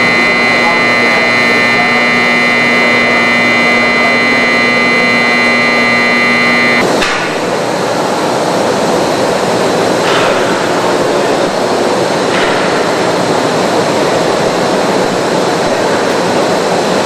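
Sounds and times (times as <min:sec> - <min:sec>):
industrial machinery whine and hum: 0:00.0 - 0:17.0.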